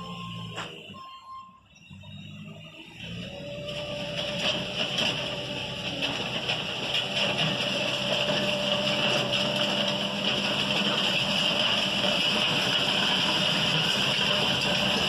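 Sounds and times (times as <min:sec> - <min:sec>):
loader diesel engine under load: 0:00.0 - 0:15.0.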